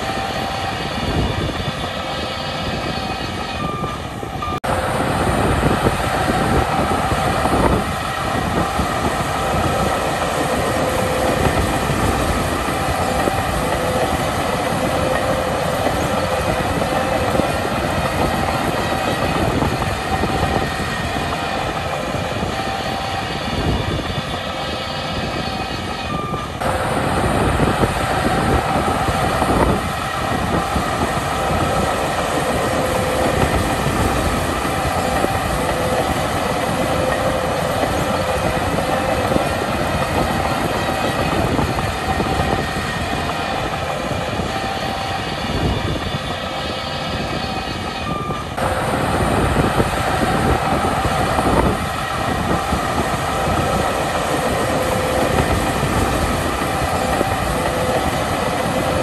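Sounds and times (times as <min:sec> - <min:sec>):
diesel engine under load: 0:00.0 - 0:59.0
steel tracks clattering and squealing: 0:00.0 - 0:59.0.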